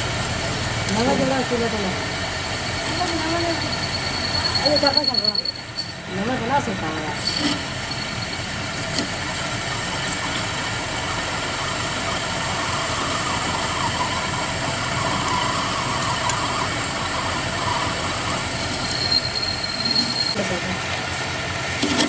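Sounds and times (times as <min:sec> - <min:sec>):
machine running steadily: 0:00.0 - 0:22.0.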